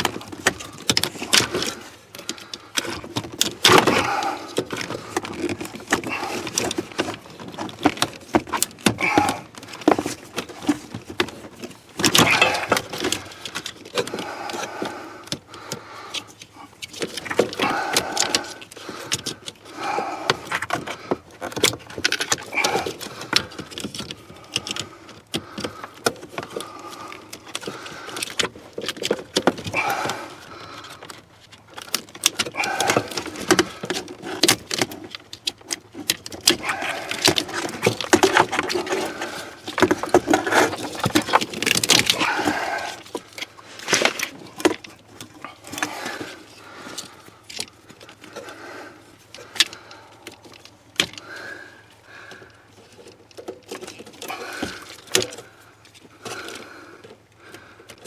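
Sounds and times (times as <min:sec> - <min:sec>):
plastic connectors rattling and clicking: 0:00.0 - 0:58.0.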